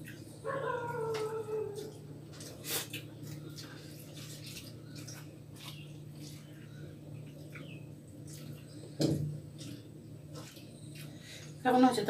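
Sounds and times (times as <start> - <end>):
soft chewing: 0.0 - 11.6
steady low hum: 0.0 - 12.0.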